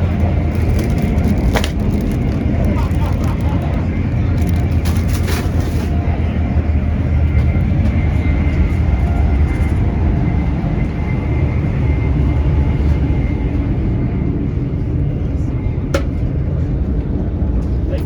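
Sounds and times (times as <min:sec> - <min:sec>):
train rumble from inside carriage: 0:00.0 - 0:18.0.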